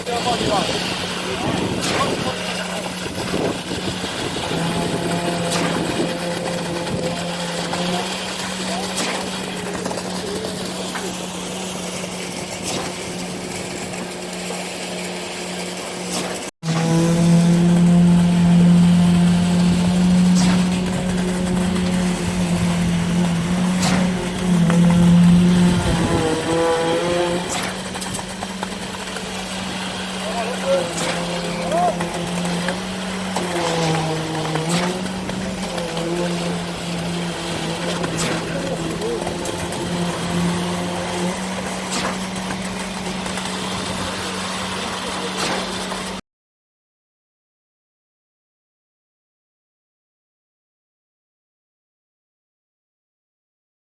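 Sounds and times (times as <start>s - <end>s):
concrete pump engine and hydraulic hum: 0.0s - 46.2s.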